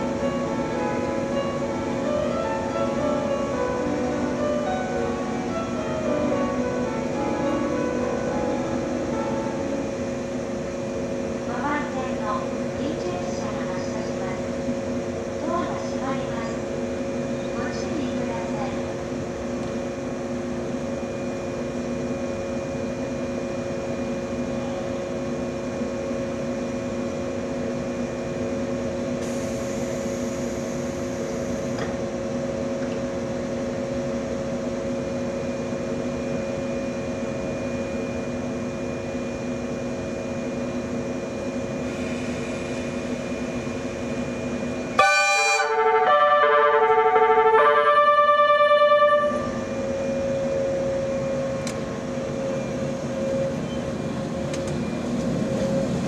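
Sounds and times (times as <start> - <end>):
train electrical hum: 0.0 - 56.0.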